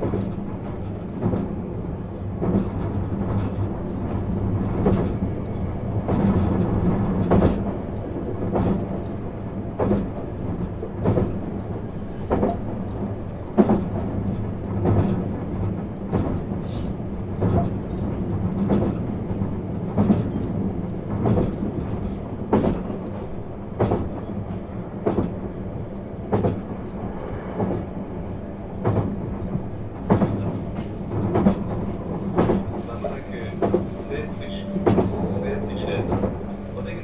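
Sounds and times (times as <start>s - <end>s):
train interior rumble and hum: 0.0s - 37.0s
wheels clickety-clack over rail joints: 0.0s - 37.0s.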